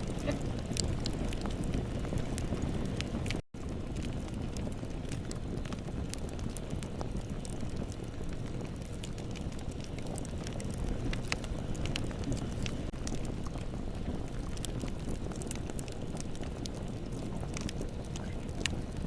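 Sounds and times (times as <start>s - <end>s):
bonfire flames rumbling: 0.0s - 19.0s
fire crackling and popping: 0.0s - 19.0s.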